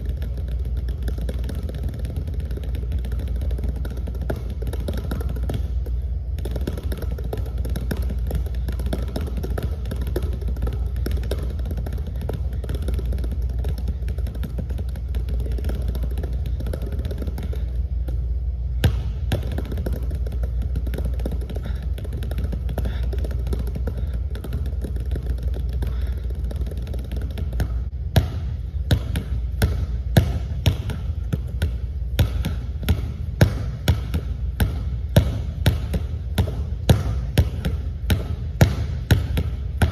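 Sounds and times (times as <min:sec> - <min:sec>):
basketball bouncing on wooden floor: 0:00.0 - 0:39.9
low hum: 0:00.0 - 0:39.9.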